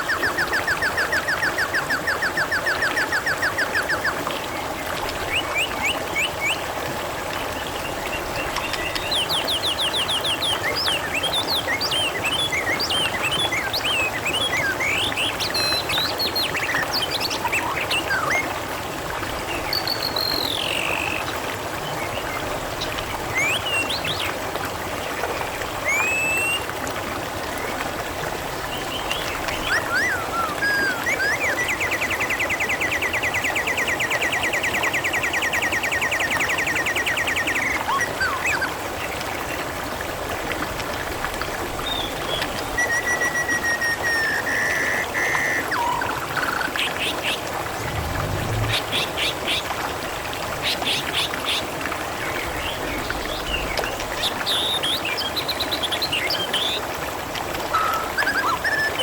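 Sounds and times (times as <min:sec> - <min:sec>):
babbling water: 0:00.0 - 0:34.0, 0:34.6 - 0:59.0.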